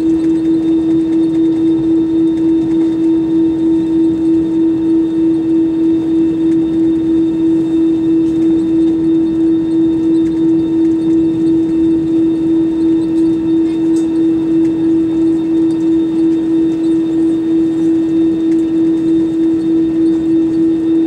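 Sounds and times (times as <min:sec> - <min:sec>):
aircraft cabin drone: 0:00.0 - 0:21.0.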